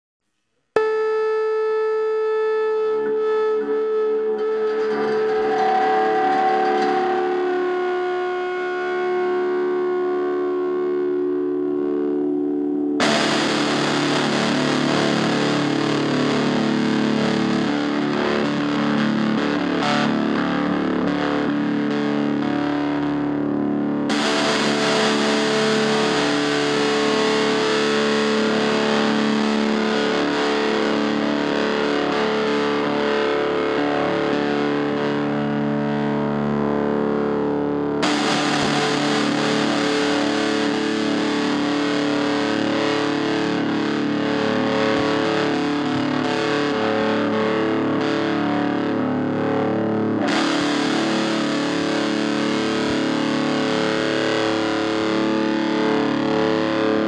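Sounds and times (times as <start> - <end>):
distorted electric guitar music: 0.8 - 57.0.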